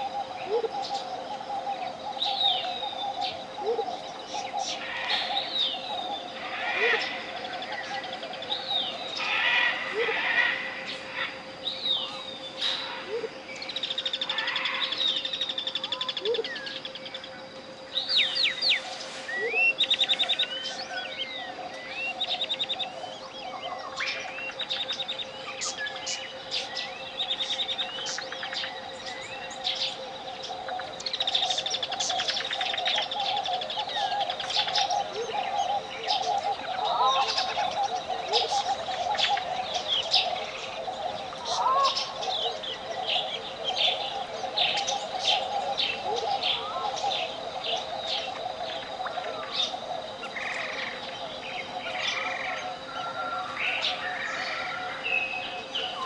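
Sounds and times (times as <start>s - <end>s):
birds chirping and trilling: 0.0s - 56.0s
steady pure tone: 0.0s - 56.0s.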